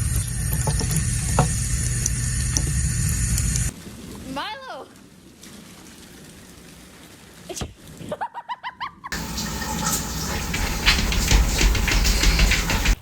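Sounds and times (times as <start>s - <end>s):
water splashing and sloshing: 0.2s - 8.2s, 9.1s - 13.0s.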